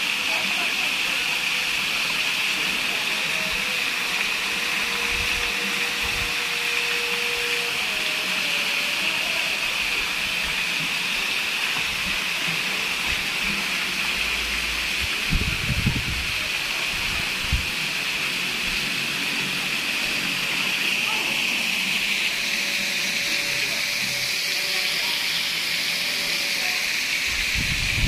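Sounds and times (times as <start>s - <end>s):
water jets spraying into pool: 0.0s - 28.0s.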